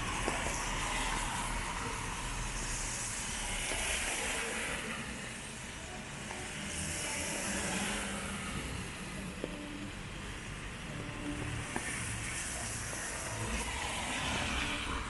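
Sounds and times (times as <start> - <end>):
rain hissing on wet pavement: 0.0 - 9.2, 11.5 - 15.0
vehicles passing on wet road: 0.0 - 15.0.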